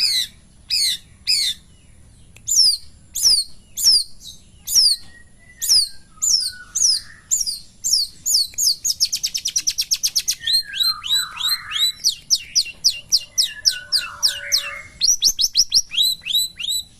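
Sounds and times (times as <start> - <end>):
bird singing sharp trilling notes: 0.0 - 16.9.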